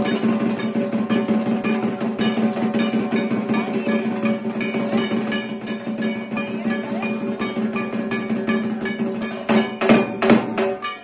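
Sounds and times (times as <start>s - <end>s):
barrel drum beating: 0.0s - 11.0s.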